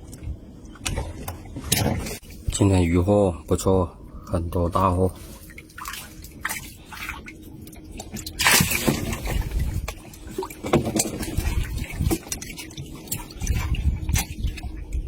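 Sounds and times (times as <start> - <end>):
water sloshing and splashing: 0.0 - 3.1, 4.1 - 15.0.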